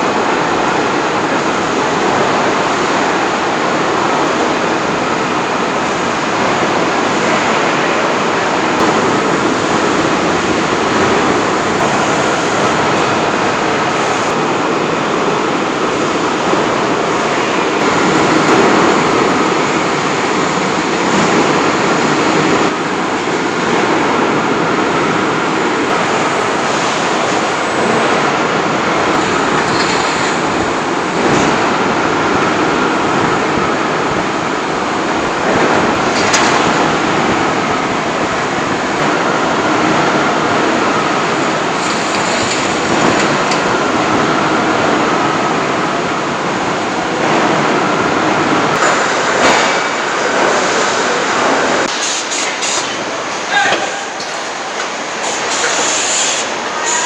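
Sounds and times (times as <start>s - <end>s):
assembly line machinery roar: 0.0s - 57.0s.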